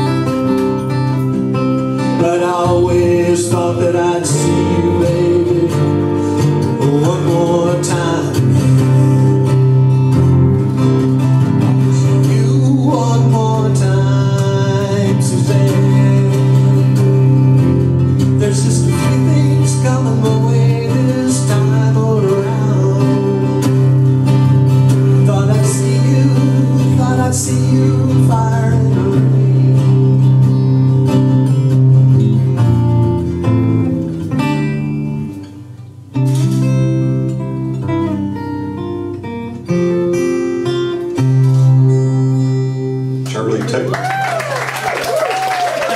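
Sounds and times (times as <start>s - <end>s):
acoustic guitars fingerpicking: 0.0s - 43.8s.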